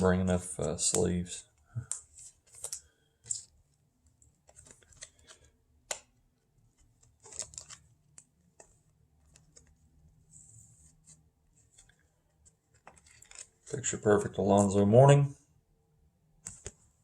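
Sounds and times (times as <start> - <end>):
cards rustling in plastic sleeves: 0.4 - 14.9.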